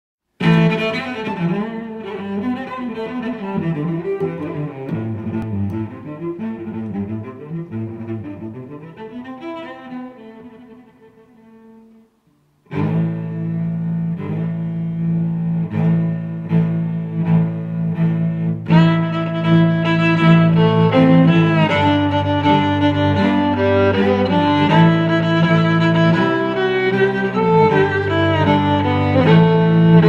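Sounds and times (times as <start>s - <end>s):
music with long held notes: 0.4s - 30.0s.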